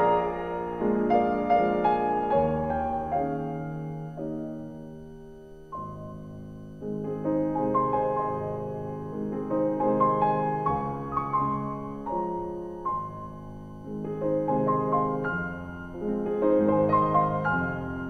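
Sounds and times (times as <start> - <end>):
gentle piano piece: 0.0 - 18.0.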